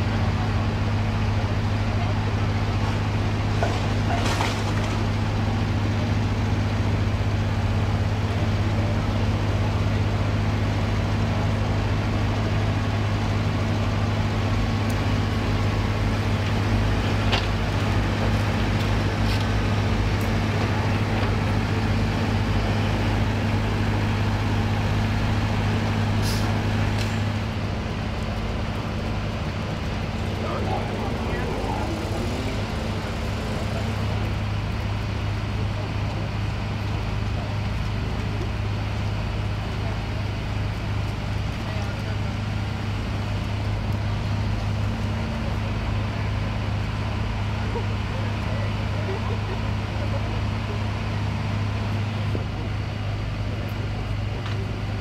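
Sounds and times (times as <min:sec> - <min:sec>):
heavy vehicle engine idling: 0:00.0 - 0:55.0.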